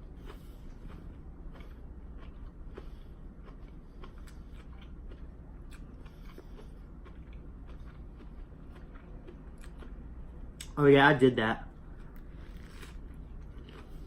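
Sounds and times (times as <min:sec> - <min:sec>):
crunchy chewing: 0:00.0 - 0:10.8, 0:11.9 - 0:14.0.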